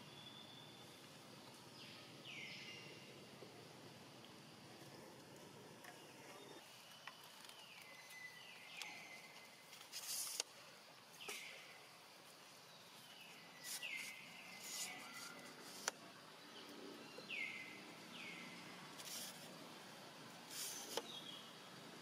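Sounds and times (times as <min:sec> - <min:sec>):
faint forest ambience: 0:00.0 - 0:22.0.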